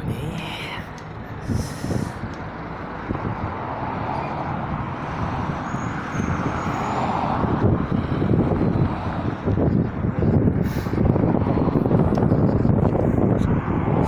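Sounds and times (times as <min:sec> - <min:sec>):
road traffic tyre noise: 0:00.0 - 0:14.0
wind buffeting microphone: 0:00.0 - 0:14.0.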